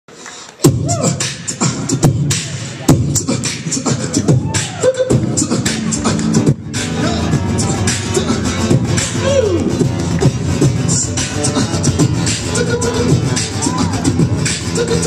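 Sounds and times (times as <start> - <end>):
person beatboxing into a microphone: 0.1 - 15.0.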